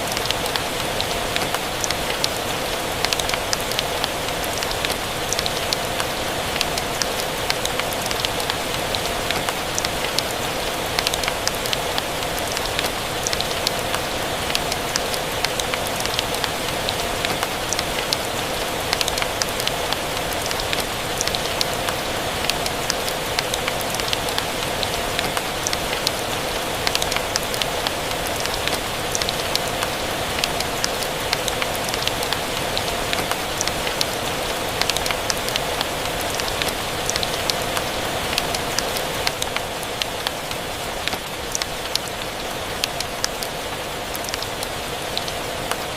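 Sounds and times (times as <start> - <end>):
rain pattering: 0.0 - 45.9.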